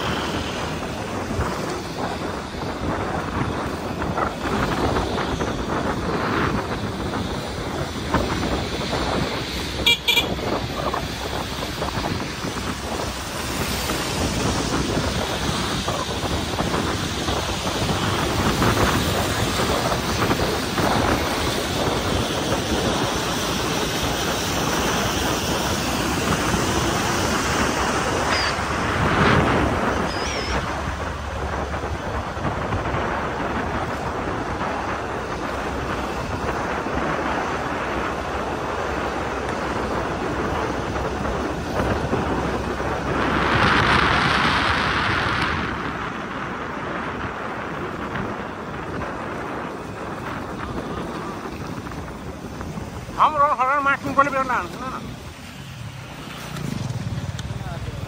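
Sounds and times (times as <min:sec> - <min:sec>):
vehicle on wet road: 0:00.0 - 0:58.0
wind on microphone: 0:00.0 - 0:58.0.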